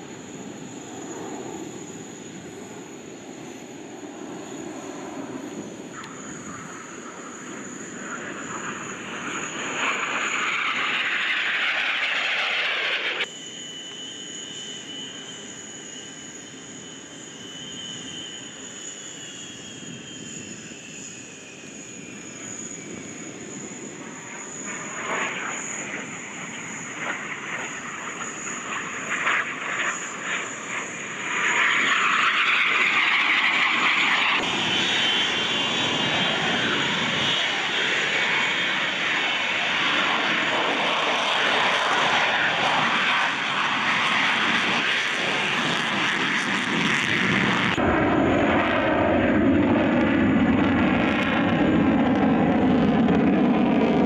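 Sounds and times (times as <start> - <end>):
high jet engine whine: 0.0 - 54.0
jet aircraft flying past: 0.0 - 54.0.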